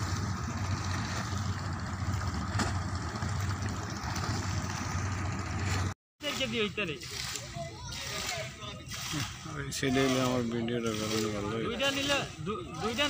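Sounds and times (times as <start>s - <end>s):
boat engine humming: 0.0s - 13.0s
wind and water noise: 0.0s - 13.0s.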